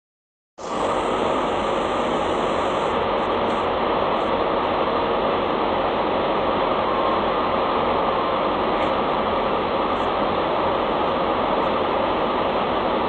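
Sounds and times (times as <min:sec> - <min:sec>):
faint hum: 0:00.6 - 0:13.0
steady mechanical noise: 0:00.6 - 0:13.0.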